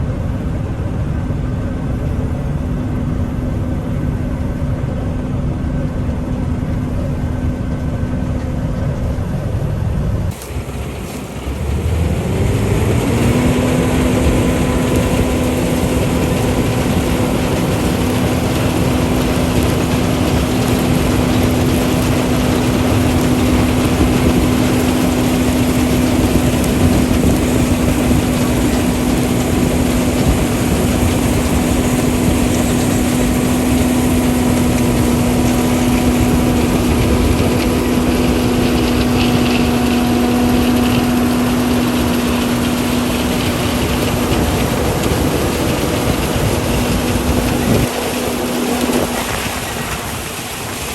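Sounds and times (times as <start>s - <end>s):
combine harvester running: 0.0s - 50.9s
constant droning tone: 0.0s - 50.9s.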